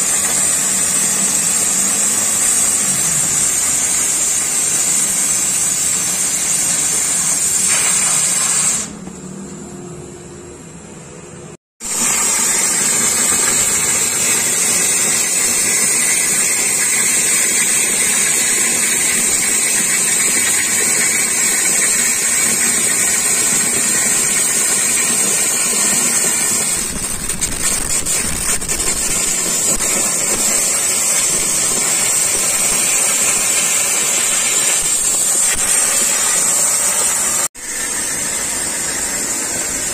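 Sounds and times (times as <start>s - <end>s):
cutting torch hissing: 0.0s - 9.0s, 11.8s - 39.9s.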